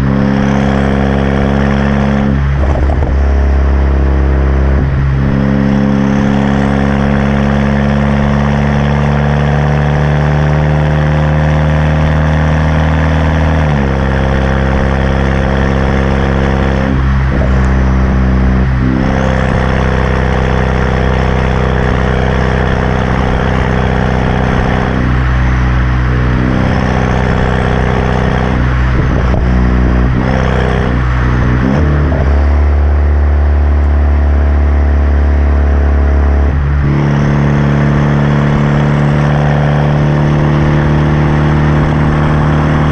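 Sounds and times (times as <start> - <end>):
car exhaust idling loudly: 0.0 - 42.9.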